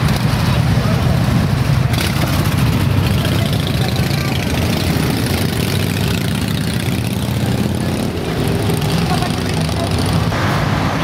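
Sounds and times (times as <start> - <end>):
motorcycles riding past slowly: 0.0 - 11.0.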